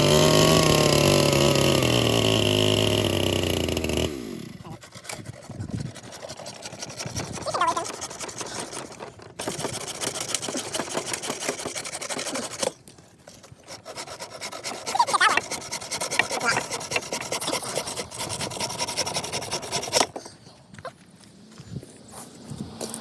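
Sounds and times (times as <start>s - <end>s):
electric chainsaw cutting log: 0.0s - 5.4s, 6.0s - 12.8s, 13.4s - 20.2s.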